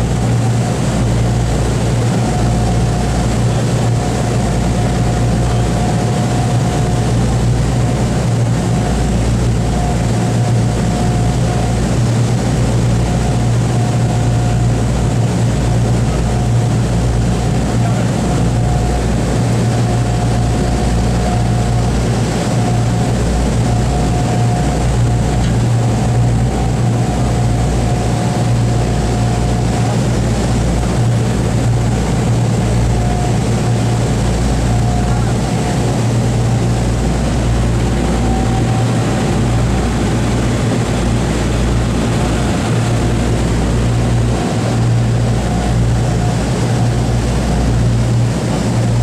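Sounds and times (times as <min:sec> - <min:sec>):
aircraft engines droning: 0:00.0 - 0:49.0
thin steady whine: 0:00.0 - 0:49.0.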